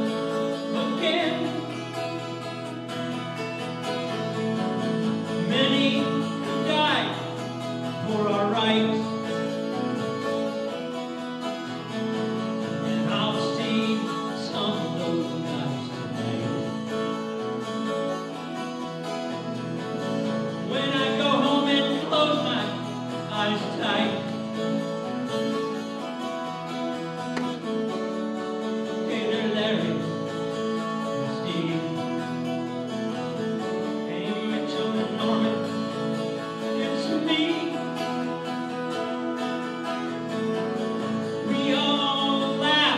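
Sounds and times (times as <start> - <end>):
acoustic guitar strumming chords: 0.0 - 42.9.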